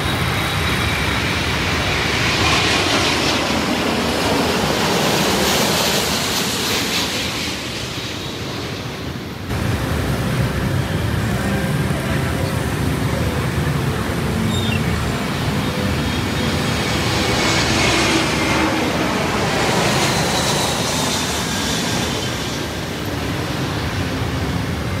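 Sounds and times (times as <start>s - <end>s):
high engine whine: 0.0s - 25.0s
jet airplane roaring overhead: 0.0s - 25.0s.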